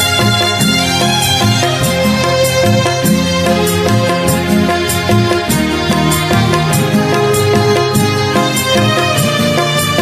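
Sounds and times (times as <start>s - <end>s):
karaoke instrumental backing track: 0.0s - 10.0s.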